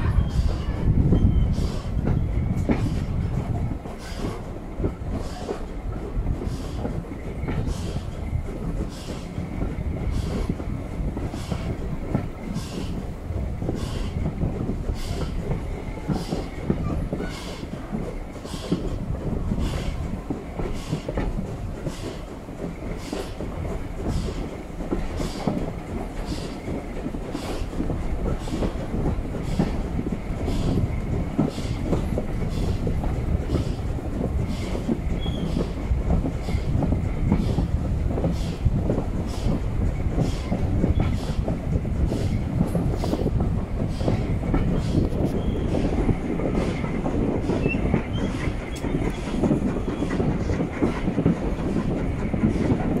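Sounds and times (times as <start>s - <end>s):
coach wheels rumbling on rails: 0.0s - 53.0s
pulsing steam hiss: 0.0s - 53.0s.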